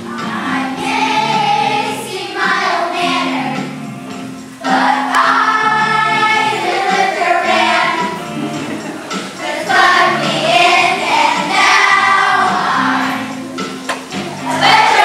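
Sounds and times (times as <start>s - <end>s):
children singing: 0.0s - 3.8s, 4.6s - 15.0s
instrumental backing music: 0.0s - 15.0s.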